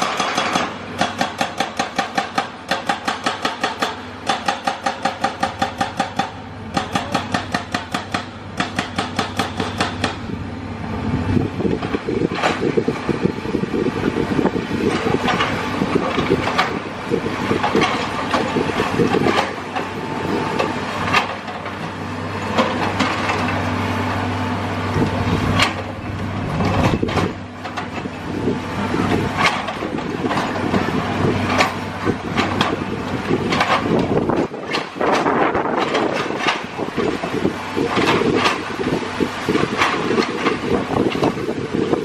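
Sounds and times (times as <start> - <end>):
hydraulic breaker pounding concrete: 0.0 - 10.4, 11.4 - 42.0
diesel engine running: 0.0 - 42.0.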